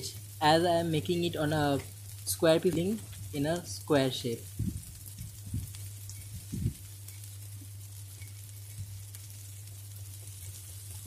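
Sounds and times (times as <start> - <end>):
food sizzling in oil: 0.0 - 11.0
low hum: 0.0 - 11.0.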